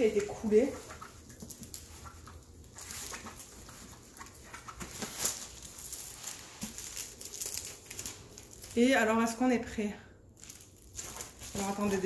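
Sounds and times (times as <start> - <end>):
canvas rustling and crinkling: 0.0 - 9.6, 10.3 - 12.0.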